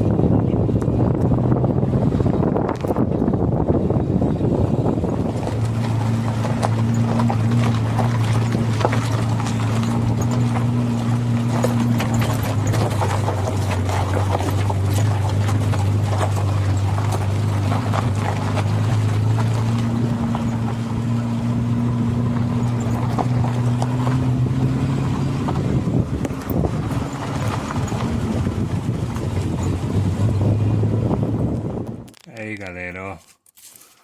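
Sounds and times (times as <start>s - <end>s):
low engine hum: 0.0s - 32.1s
suspension knocks and rattles: 0.0s - 32.3s.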